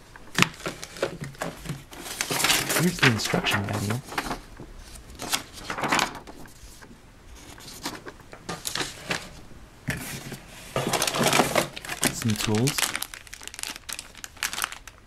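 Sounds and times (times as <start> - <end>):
cardboard and plastic rustling: 0.3 - 15.0.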